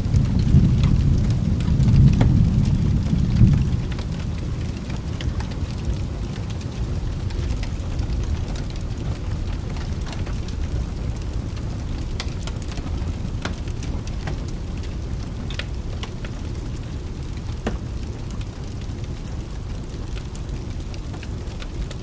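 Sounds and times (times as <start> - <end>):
low rumble of thunder: 0.0 - 22.0
steady rain: 0.0 - 22.0
wood fire crackling and popping: 0.0 - 22.0.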